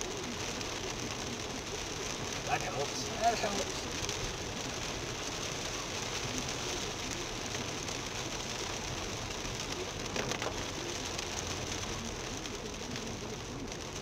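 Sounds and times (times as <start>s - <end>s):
heavy rain on car roof: 0.0s - 14.0s
tyre noise on wet road: 0.0s - 14.0s.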